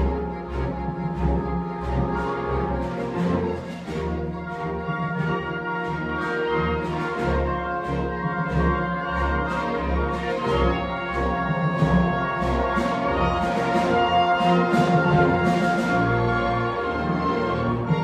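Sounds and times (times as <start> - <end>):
orchestral music with brass: 0.0 - 18.0.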